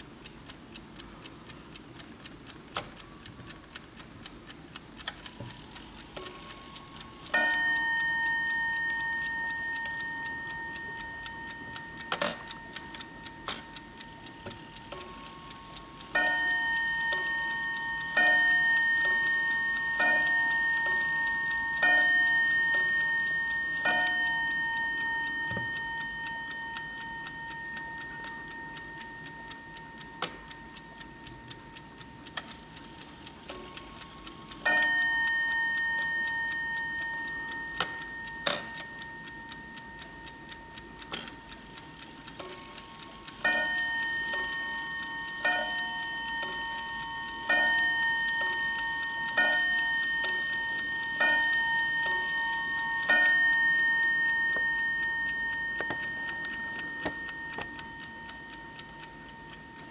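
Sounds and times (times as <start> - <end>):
mantel clock ticking: 0.0 - 59.9.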